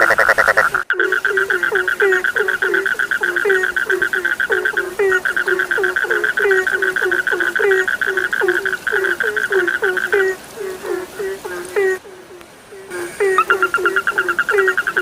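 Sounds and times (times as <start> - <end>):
low frog calls: 0.0 - 15.0.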